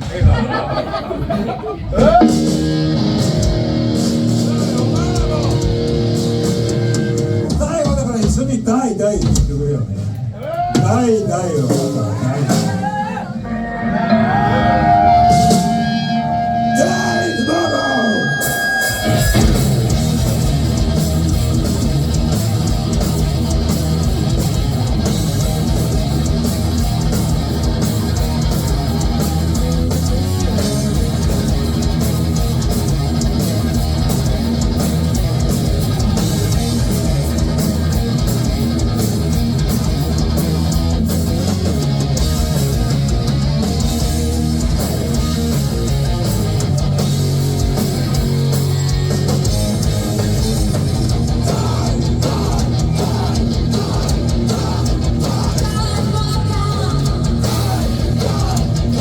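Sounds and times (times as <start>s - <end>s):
heavy metal band playing live: 2.0s - 59.0s.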